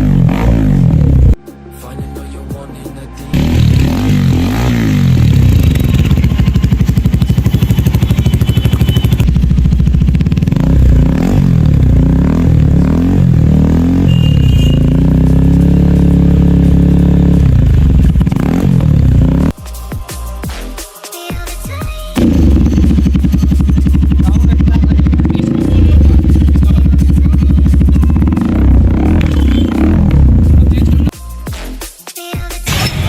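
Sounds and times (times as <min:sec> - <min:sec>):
motorcycle engine revving: 0:00.0 - 0:01.4, 0:03.3 - 0:19.6, 0:22.2 - 0:31.1.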